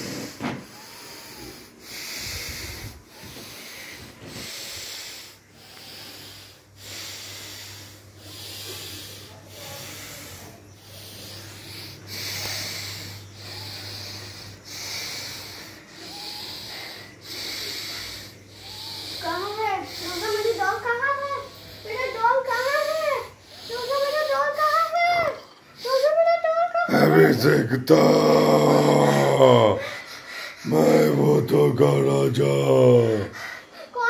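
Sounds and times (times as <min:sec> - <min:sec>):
heavy rhythmic breathing: 0:00.0 - 0:34.0
steady low hum: 0:00.0 - 0:34.0.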